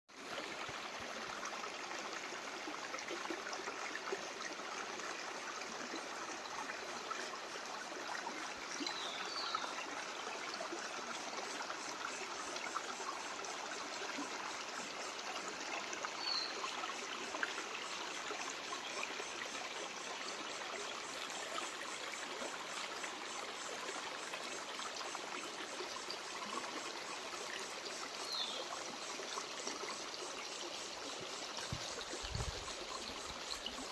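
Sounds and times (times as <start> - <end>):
stream flowing and trickling: 0.1 - 33.9.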